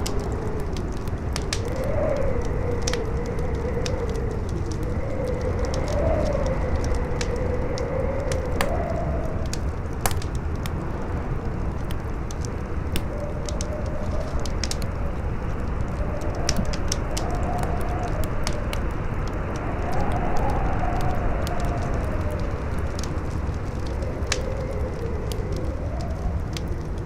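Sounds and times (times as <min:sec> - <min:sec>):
campfire crackling and popping: 0:00.0 - 0:27.0
strong wind howling: 0:00.0 - 0:27.0.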